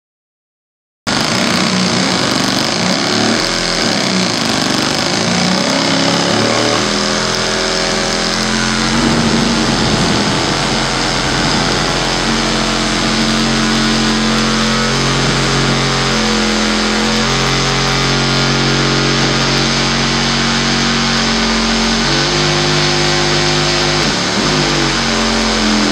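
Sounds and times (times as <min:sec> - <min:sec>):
electronic feedback noise: 0:01.1 - 0:25.9.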